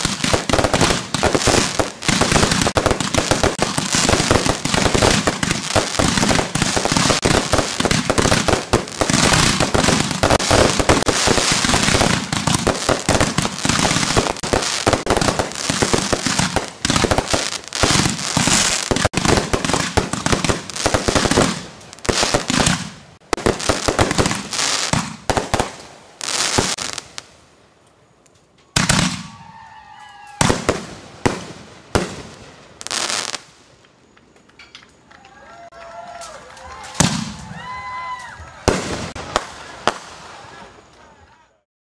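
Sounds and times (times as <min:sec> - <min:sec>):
fireworks bangs: 0:00.0 - 0:27.3, 0:28.7 - 0:29.7, 0:30.3 - 0:33.8, 0:35.2 - 0:41.4.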